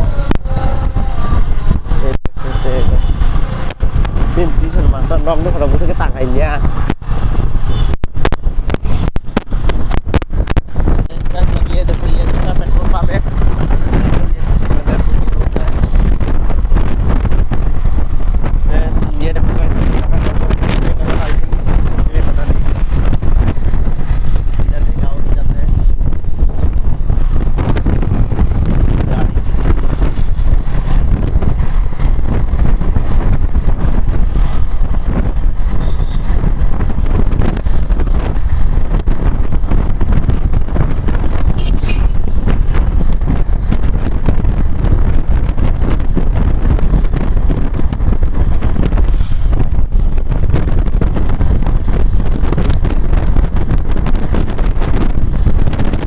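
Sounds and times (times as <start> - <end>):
vehicle noise: 0.0 - 56.0
wind buffeting microphone: 0.0 - 56.0.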